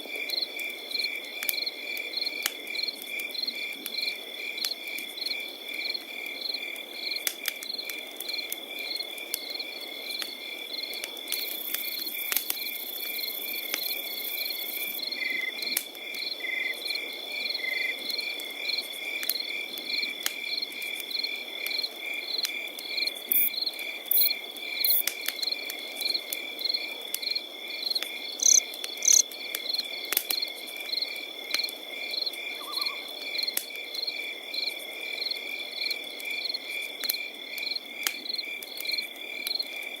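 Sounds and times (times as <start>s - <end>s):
campfire crackling: 0.0s - 40.0s
crickets chirping: 0.2s - 39.9s.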